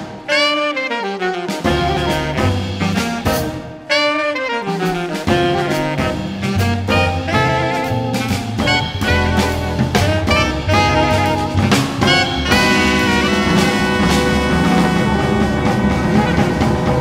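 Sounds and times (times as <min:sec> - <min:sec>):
busy drumming: 0:00.0 - 0:17.0
jazz band playing: 0:00.0 - 0:17.0
saxophones playing: 0:00.3 - 0:17.0.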